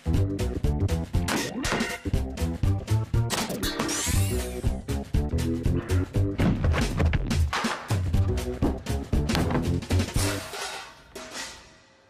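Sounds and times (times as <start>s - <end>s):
upbeat instrumental music: 0.0s - 10.8s.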